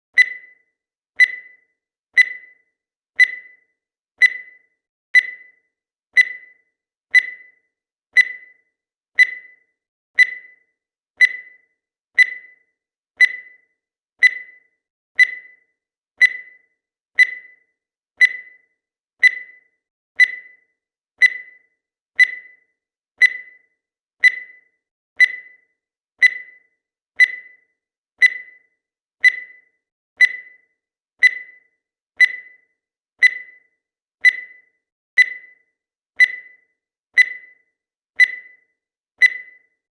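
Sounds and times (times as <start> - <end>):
timer tick-beeps: 0.0 - 39.9.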